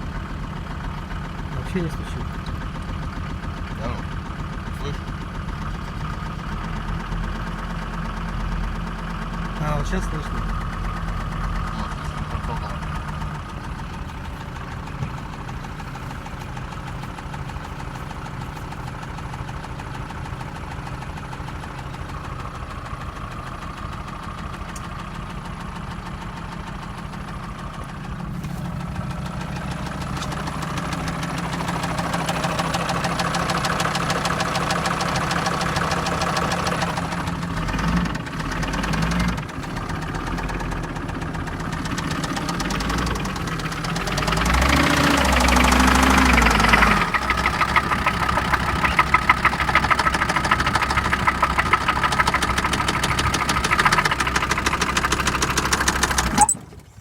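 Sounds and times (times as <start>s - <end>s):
diesel engine knocking: 0.0s - 57.0s.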